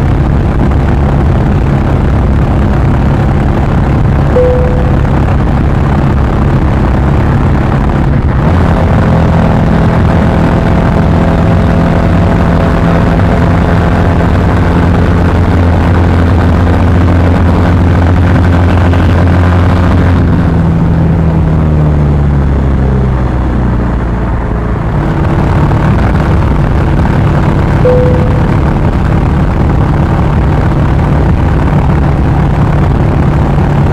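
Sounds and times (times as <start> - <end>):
motorcycle engine running hard: 0.0 - 33.9.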